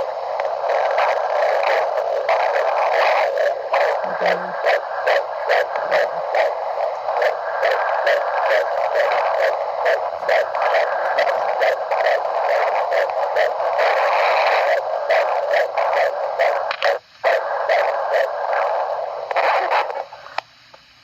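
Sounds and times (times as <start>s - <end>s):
rapid fetal heartbeat: 0.0s - 20.3s
steady hiss: 0.0s - 21.0s.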